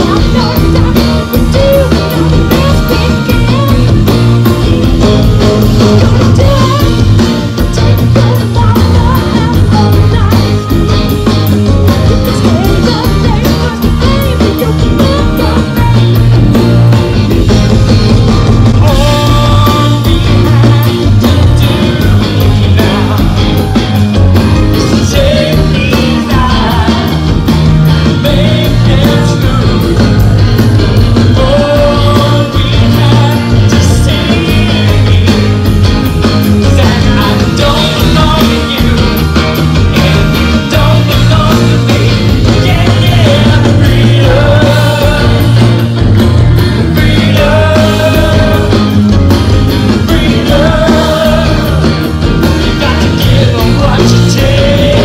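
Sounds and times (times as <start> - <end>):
person singing: 0.0 - 11.1, 11.9 - 16.8, 18.6 - 46.0, 46.8 - 49.1, 49.9 - 55.0
live rock band: 0.0 - 55.0
steady drum beat: 0.0 - 55.0.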